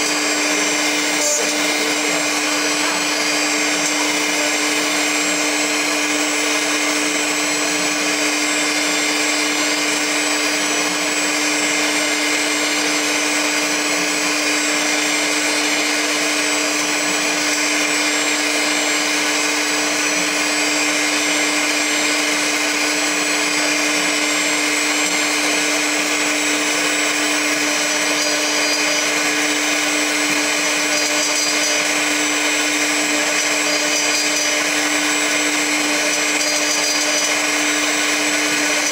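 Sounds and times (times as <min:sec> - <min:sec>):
metal cutting noise: 0:00.0 - 0:38.9
milling machine hum: 0:00.0 - 0:38.9.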